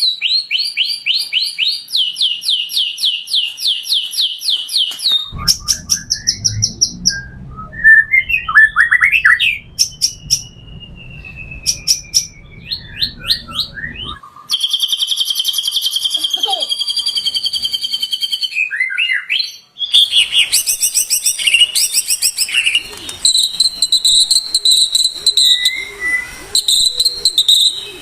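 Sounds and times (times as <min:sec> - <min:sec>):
bird singing varied song: 0:00.0 - 0:28.0.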